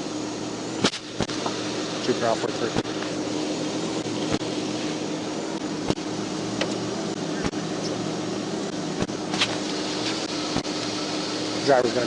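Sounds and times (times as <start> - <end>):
idling car and blower hum: 0.0 - 12.0.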